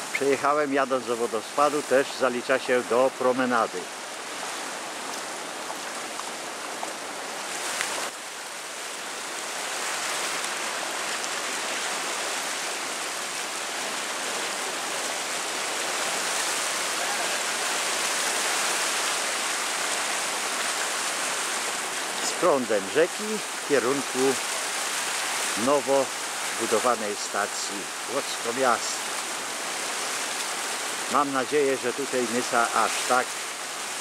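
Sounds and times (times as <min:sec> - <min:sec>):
river rushing in flood: 0:00.0 - 0:34.0.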